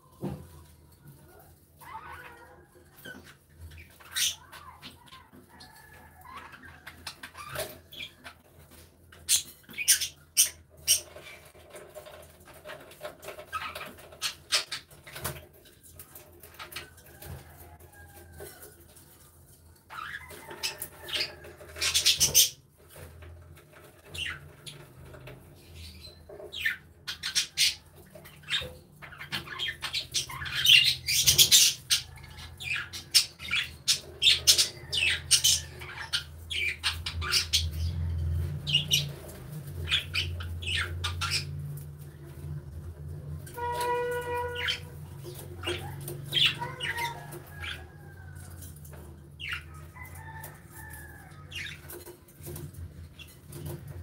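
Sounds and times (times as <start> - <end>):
budgerigars chirping and chattering: 1.8 - 15.4, 19.9 - 23.0, 23.7 - 42.8, 43.6 - 54.0.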